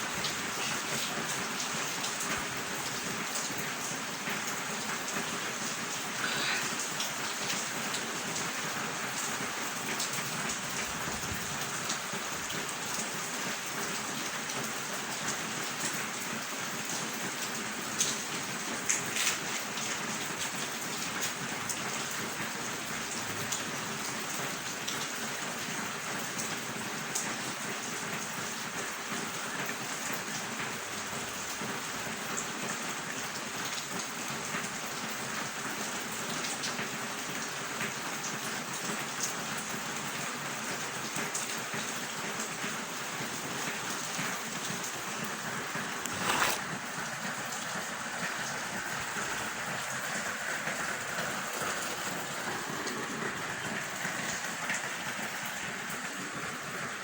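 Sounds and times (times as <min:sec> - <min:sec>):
sharp raindrops: 0:00.0 - 0:57.0
steady rain hiss: 0:00.0 - 0:57.0.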